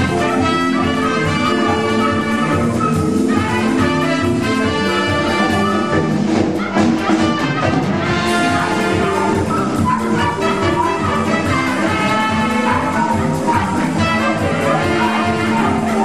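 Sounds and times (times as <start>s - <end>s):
brass band music: 0.0s - 16.0s.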